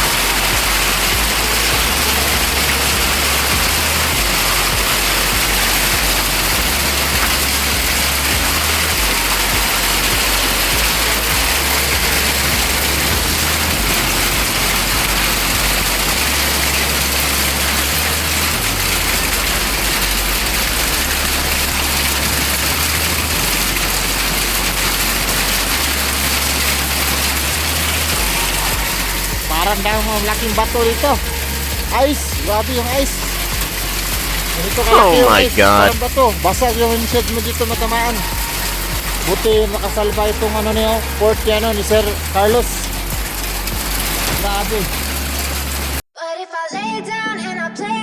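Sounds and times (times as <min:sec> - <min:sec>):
hail and rain pelting down: 0:00.0 - 0:46.0.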